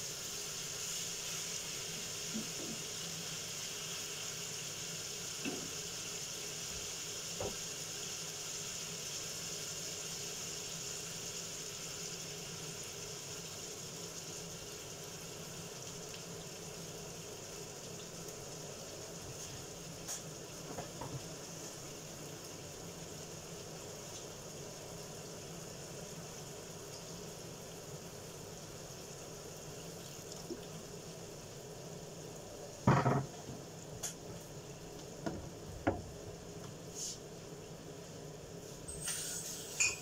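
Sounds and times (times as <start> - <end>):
meat sizzling in a frying pan: 0.0 - 40.0.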